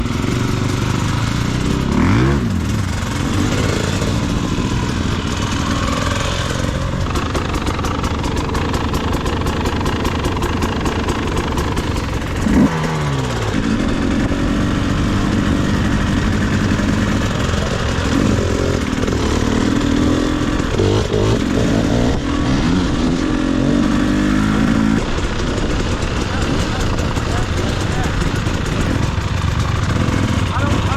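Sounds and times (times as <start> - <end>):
dirt bike engine revving: 0.0 - 30.9
terrain noise: 0.0 - 30.9.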